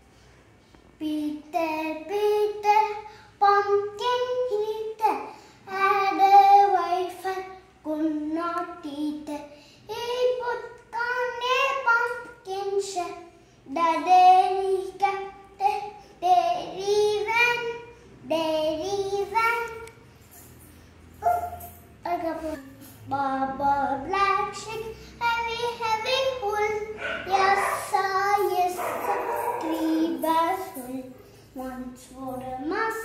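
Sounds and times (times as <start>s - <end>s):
boy singing: 1.0s - 19.9s, 22.0s - 33.0s.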